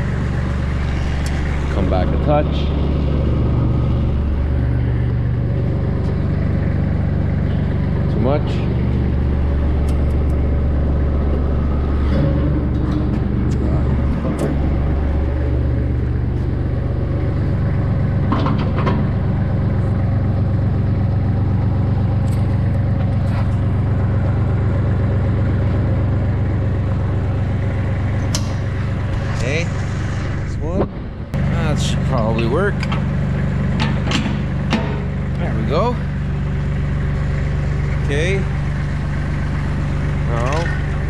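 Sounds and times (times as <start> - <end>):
diesel tractor engine running: 0.0 - 41.0.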